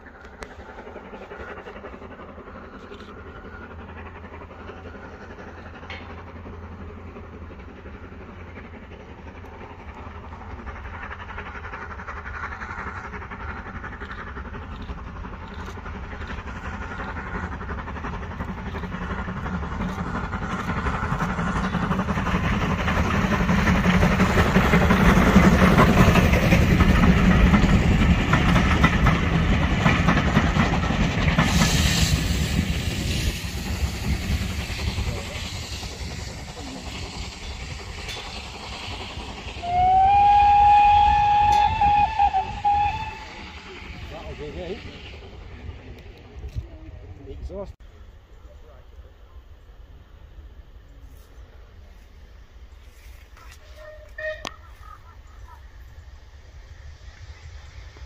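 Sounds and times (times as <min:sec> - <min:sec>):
steam hiss: 0:00.0 - 0:47.7, 0:50.2 - 0:58.0
steam locomotive passing: 0:00.0 - 0:58.0.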